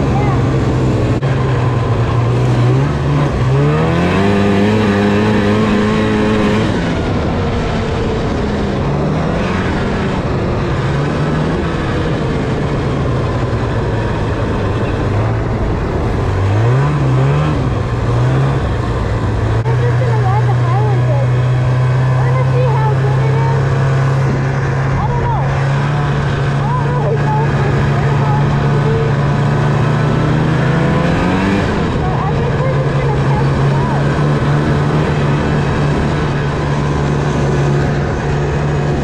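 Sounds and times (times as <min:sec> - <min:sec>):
snowmobile engine revving: 0:00.0 - 0:39.0
wind and track rushing: 0:00.0 - 0:39.0.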